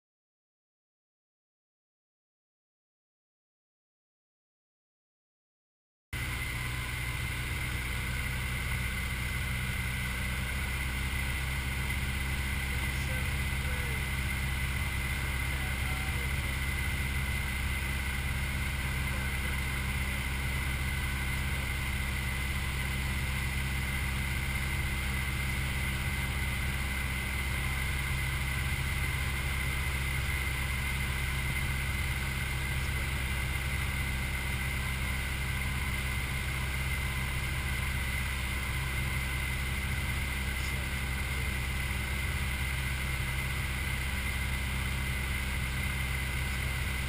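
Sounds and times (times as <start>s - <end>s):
light aircraft engine drone: 6.2s - 47.0s.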